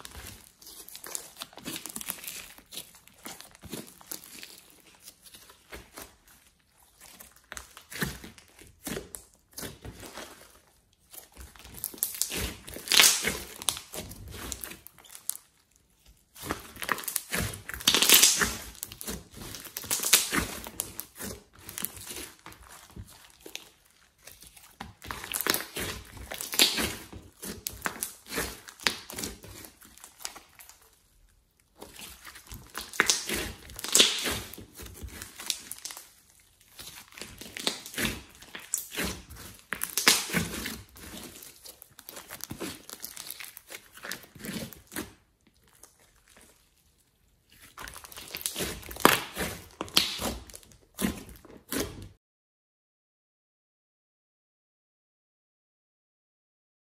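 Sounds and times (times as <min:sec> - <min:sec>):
slime squelching and crackling: 0:00.0 - 0:52.2.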